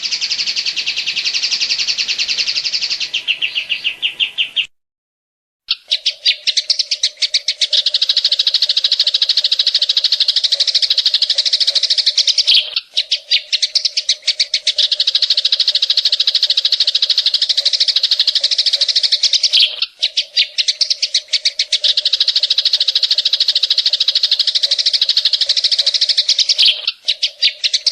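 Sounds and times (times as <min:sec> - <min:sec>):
bird singing fast trill: 0:00.0 - 0:04.7, 0:05.7 - 0:27.9.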